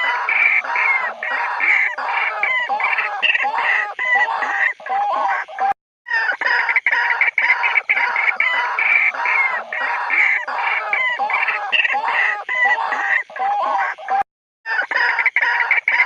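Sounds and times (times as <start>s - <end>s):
waterhen calls: 0.0s - 16.0s.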